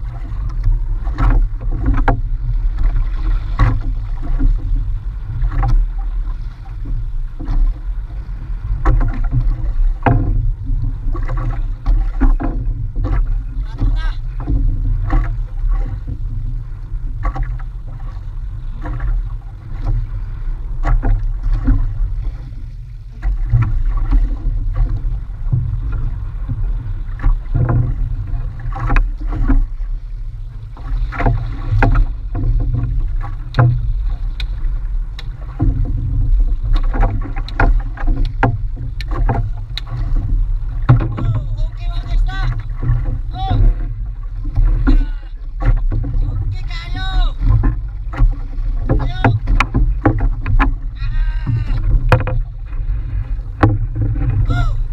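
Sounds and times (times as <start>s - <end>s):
low rumble: 0.0s - 54.9s
waves splashing against hull: 0.0s - 54.9s.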